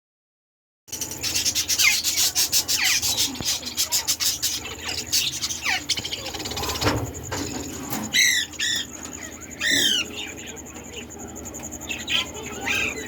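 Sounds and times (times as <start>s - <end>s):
parrots chirping: 0.9s - 13.0s.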